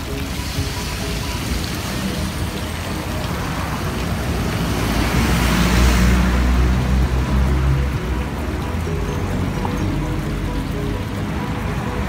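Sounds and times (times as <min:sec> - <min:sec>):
fountain water splashing: 0:00.0 - 0:12.0
street traffic: 0:00.0 - 0:12.0
vehicle engine rumble: 0:00.0 - 0:12.0.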